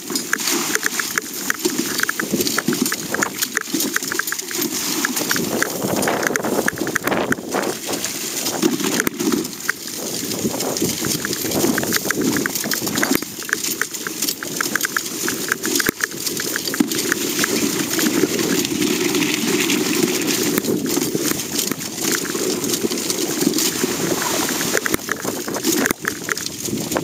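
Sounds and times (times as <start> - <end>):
sled scraping and rattling: 0.0 - 27.0.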